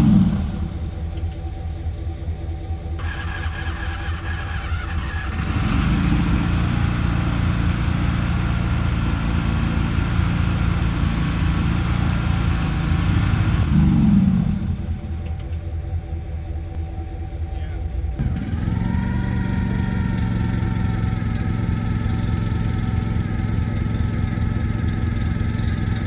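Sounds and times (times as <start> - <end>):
engine revving: 0.0 - 1.6, 3.0 - 15.6, 18.2 - 26.0.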